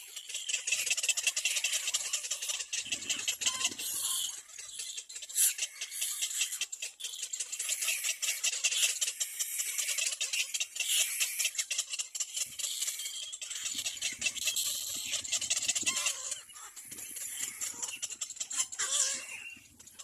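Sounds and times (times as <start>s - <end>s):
chicks rasping calls: 0.0s - 20.0s.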